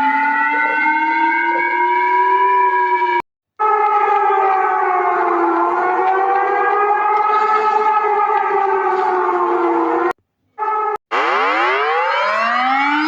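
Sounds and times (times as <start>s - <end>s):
civil defence siren wailing: 0.0s - 13.0s.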